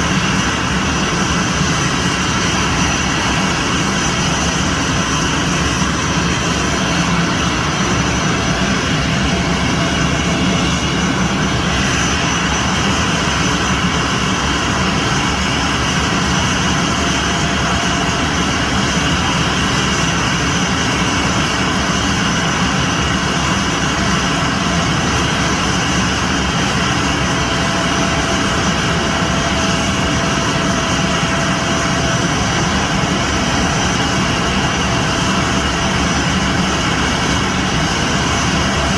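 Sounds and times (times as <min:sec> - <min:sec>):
jet engines whining: 0:00.0 - 0:38.9.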